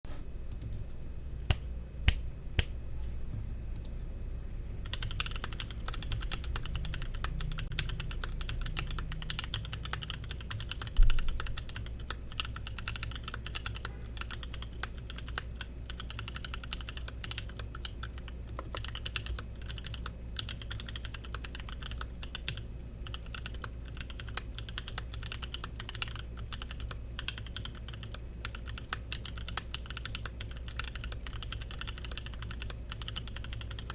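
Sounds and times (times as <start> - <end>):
mechanical keyboard typing: 4.8 - 33.9.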